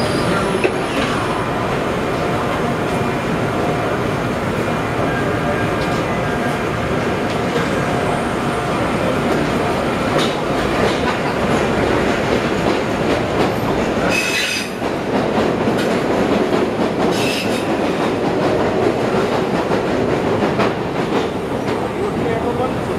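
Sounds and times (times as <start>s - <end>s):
wheels rumbling on rail: 0.0s - 22.9s.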